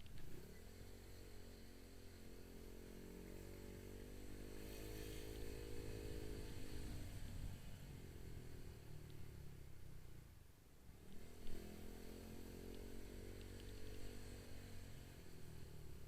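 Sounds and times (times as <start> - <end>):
motorcycle engine pulling away: 0.1 - 10.1, 11.0 - 16.0.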